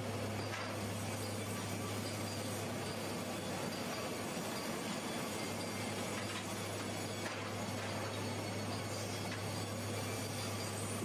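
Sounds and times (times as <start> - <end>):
sawmill machinery low hum: 0.0 - 11.0.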